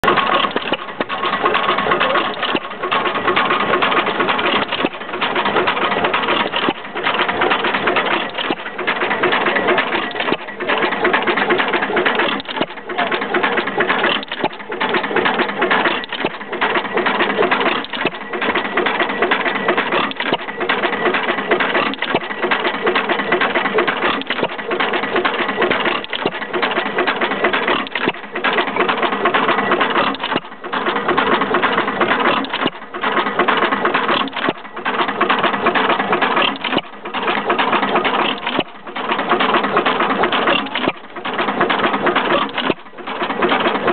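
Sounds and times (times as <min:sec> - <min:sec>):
stationary engine clattering: 0:00.0 - 0:43.9.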